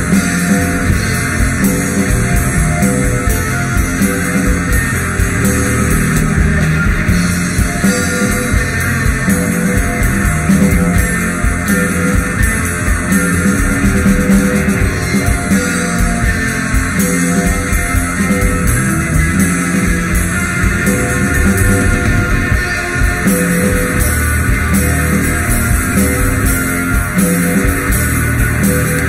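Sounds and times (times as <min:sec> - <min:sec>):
instrumental rock music: 0:00.0 - 0:29.0.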